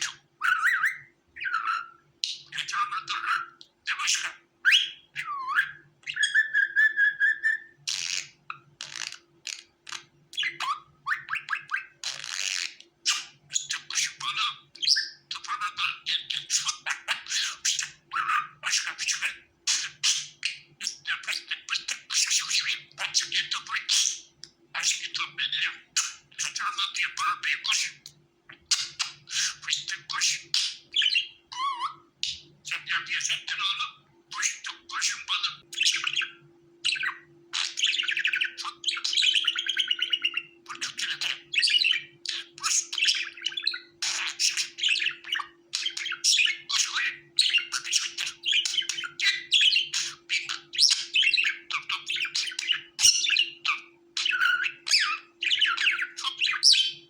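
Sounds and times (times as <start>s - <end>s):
budgerigars chattering and warbling: 0.0s - 57.0s.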